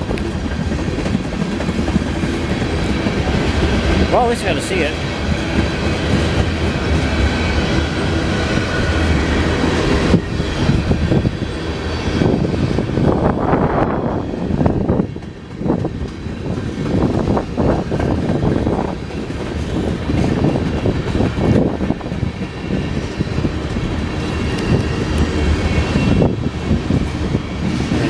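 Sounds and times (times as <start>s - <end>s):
wheels clattering on rails: 0.0s - 13.7s, 14.5s - 28.0s
railroad cars rumbling: 0.0s - 28.0s.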